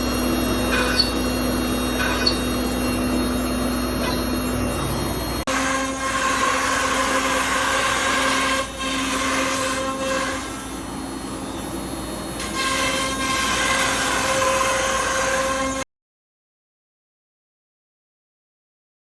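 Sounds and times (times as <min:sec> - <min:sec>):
cnc router spindle whining: 0:00.0 - 0:15.8.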